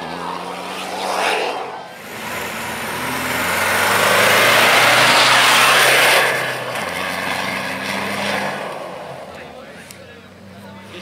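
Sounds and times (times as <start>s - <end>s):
truck engine passing at speed: 0.0s - 9.7s.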